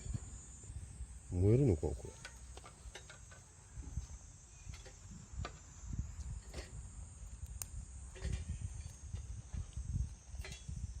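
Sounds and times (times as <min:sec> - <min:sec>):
insects chirring: 0:00.0 - 0:11.0
twig fire crackling: 0:01.8 - 0:11.0.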